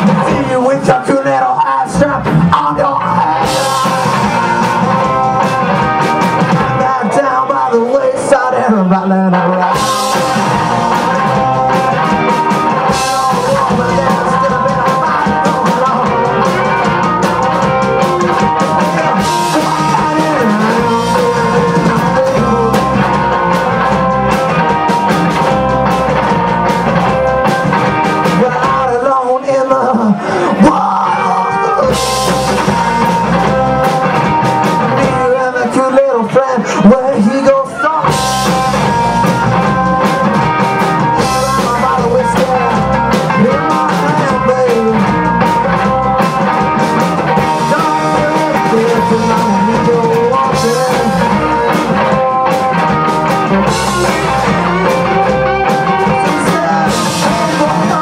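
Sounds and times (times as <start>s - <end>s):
amplified guitars: 0.0s - 58.0s
drums: 0.0s - 58.0s
person singing: 0.0s - 58.0s.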